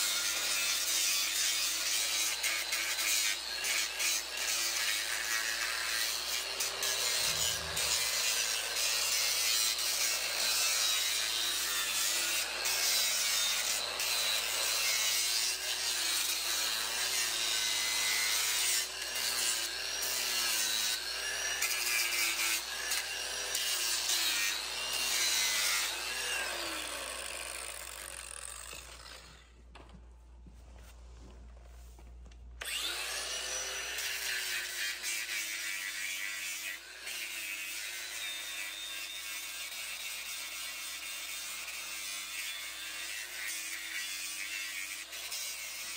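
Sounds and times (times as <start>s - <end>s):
angle grinder grinding hoof: 0.0s - 30.0s, 32.6s - 45.9s.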